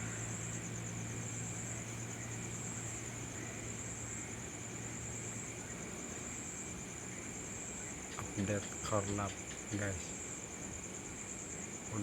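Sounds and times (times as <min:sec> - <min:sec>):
crickets trilling: 0:00.0 - 0:12.0
low steady hum: 0:00.0 - 0:12.0.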